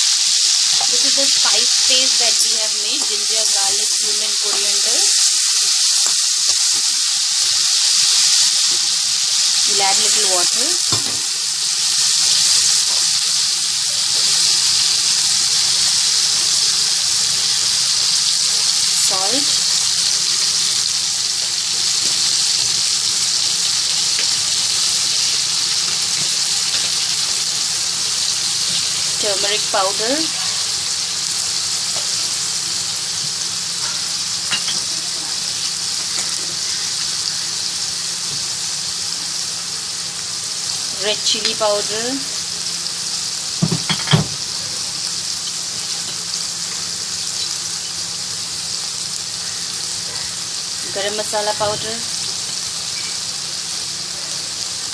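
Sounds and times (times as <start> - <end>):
chicken sizzling in hot oil: 0.0 - 54.9.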